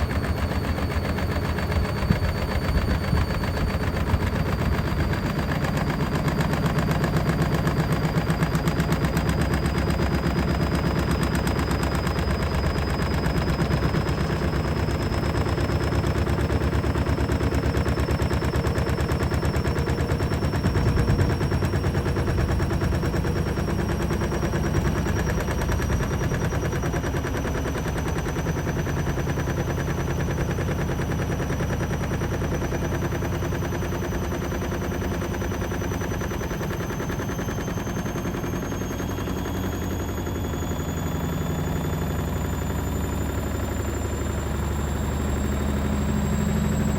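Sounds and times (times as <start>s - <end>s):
motor whine rising in pitch: 0.0s - 46.9s
washing machine spinning: 0.0s - 46.9s.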